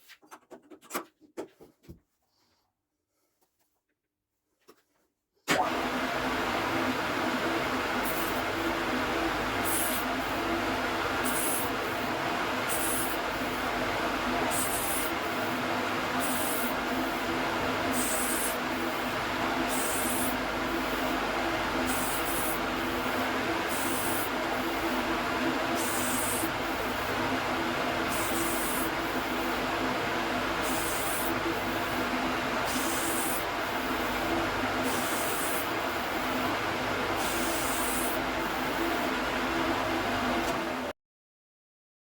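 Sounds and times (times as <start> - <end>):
lathe humming: 5.8 - 40.9.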